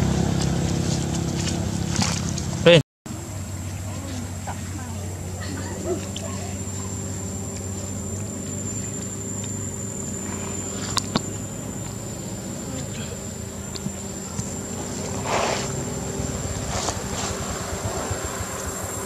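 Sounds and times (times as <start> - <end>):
dry leaves rustling: 0.0 - 19.0
high even whine: 0.0 - 19.0
low hum: 0.0 - 19.0.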